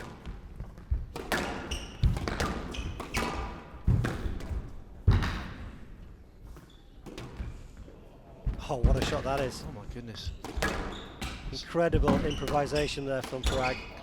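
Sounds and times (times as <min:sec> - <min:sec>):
squash ball hitting rackets and walls: 0:00.0 - 0:07.8, 0:08.5 - 0:14.0.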